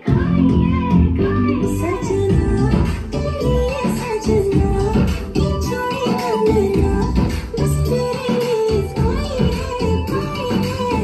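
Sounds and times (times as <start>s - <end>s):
loud dance music: 0.0s - 11.0s.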